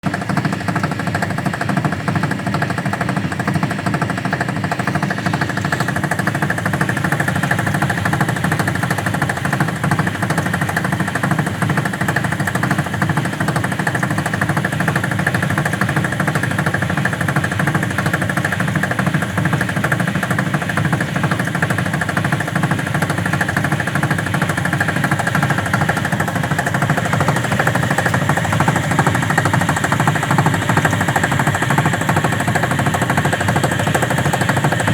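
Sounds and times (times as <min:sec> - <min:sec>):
washing machine knocking rattle: 0:00.0 - 0:34.9.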